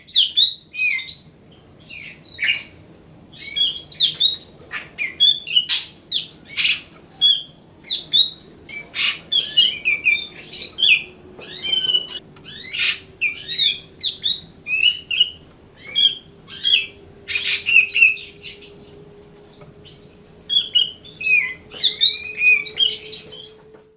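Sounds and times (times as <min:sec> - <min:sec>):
bird singing chattering chirps: 0:03.4 - 0:23.6.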